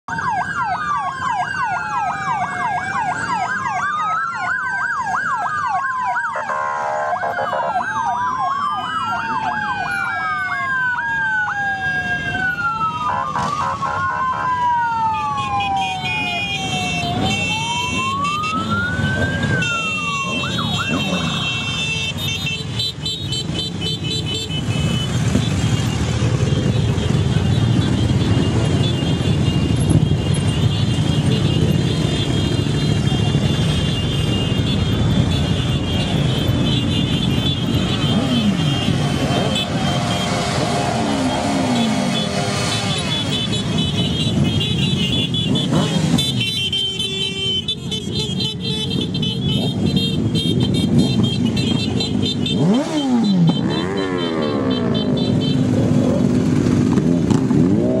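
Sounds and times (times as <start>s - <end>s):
sirens wailing and yelping: 0.0s - 58.0s
motorcycle engines passing: 0.1s - 58.0s.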